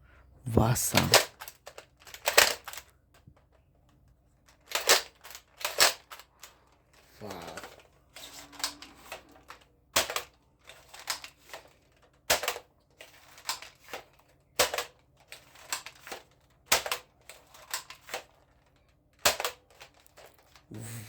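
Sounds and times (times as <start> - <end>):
plastic toy guns clicking: 1.0 - 2.9, 4.5 - 6.6, 7.3 - 20.7.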